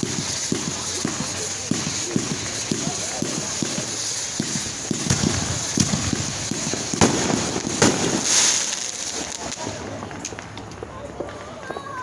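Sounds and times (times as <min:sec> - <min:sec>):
fireworks low thumps: 0:00.0 - 0:11.8
fireworks sharp bangs: 0:00.0 - 0:12.0.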